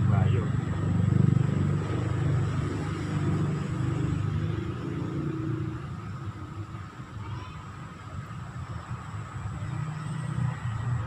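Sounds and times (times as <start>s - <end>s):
passing vehicle engine rumble: 0.0s - 11.0s.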